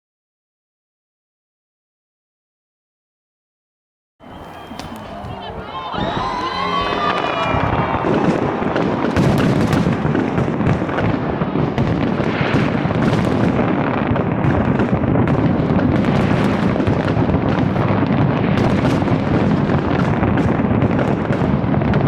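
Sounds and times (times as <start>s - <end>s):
fireworks barrage: 4.2s - 22.0s.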